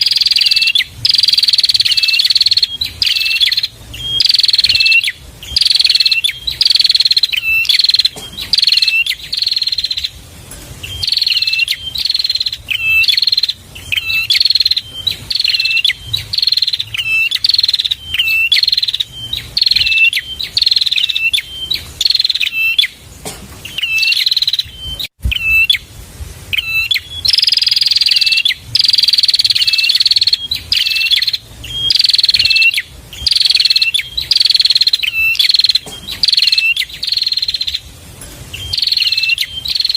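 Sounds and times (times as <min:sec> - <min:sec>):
bird song buzzy chattering: 0:00.0 - 0:25.9, 0:26.5 - 0:39.9.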